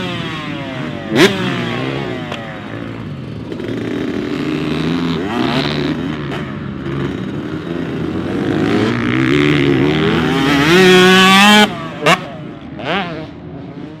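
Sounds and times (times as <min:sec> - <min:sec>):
two-stroke motocross engine revving: 0:00.0 - 0:14.0.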